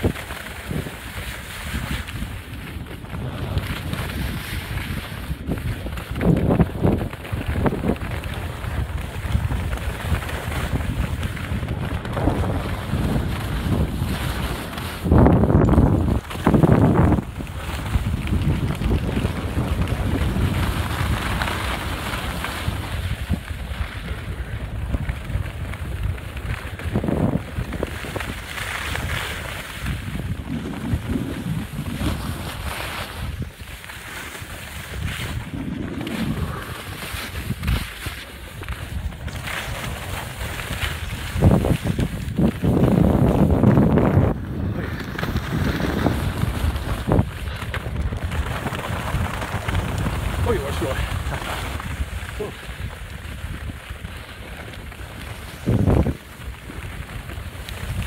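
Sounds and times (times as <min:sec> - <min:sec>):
skis sliding over packed snow: 0:00.0 - 0:58.0
wind buffeting microphone: 0:00.0 - 0:58.0.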